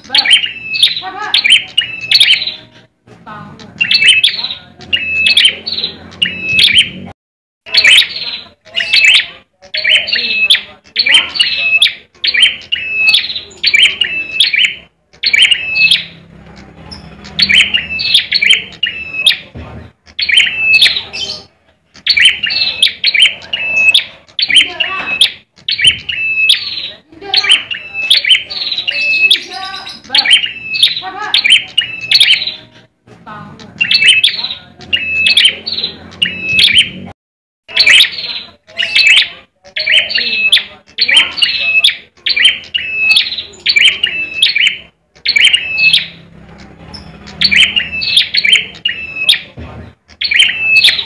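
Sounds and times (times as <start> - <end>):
bird chirping sharply: 0.0 - 2.9, 3.6 - 7.1, 7.7 - 32.9, 33.6 - 37.1, 37.7 - 51.0.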